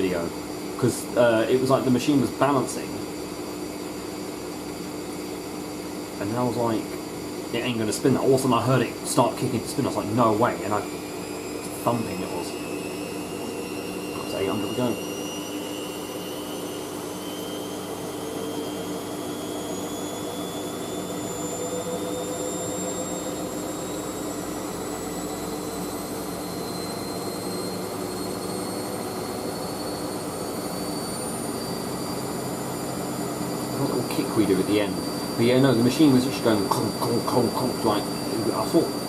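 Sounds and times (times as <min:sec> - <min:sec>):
motor whine climbing in pitch: 0:00.0 - 0:39.0
washing machine spinning: 0:00.0 - 0:39.0.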